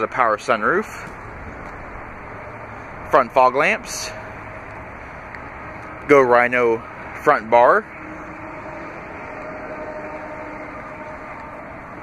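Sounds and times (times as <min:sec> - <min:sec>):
outdoor background rumble and hiss: 0:00.0 - 0:12.0.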